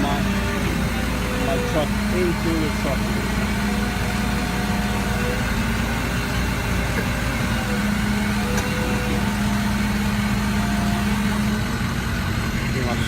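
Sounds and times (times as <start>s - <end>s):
hydraulic bed sliding: 0.0s - 13.0s
truck engine running: 0.0s - 13.0s.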